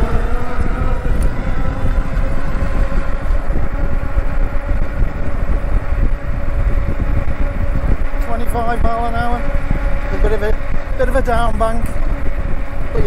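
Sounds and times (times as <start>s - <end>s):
electric motor whine: 0.0s - 13.0s
wind rush: 0.0s - 13.0s.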